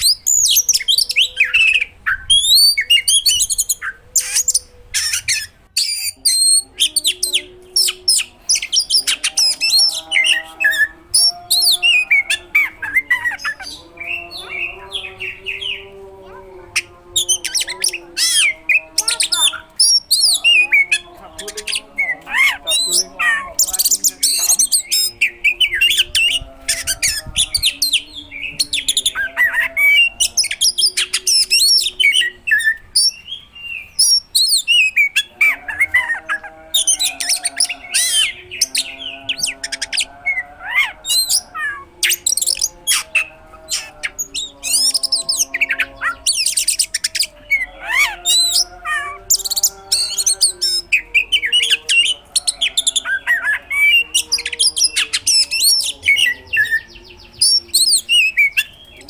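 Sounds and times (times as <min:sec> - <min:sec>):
bird singing varied song: 0:00.0 - 0:59.0.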